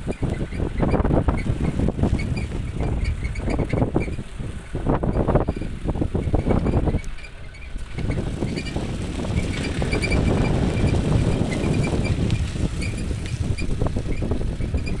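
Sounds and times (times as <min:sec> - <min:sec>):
vehicle engine and road rumble: 0:00.0 - 0:15.0
wind buffeting microphone: 0:00.0 - 0:15.0.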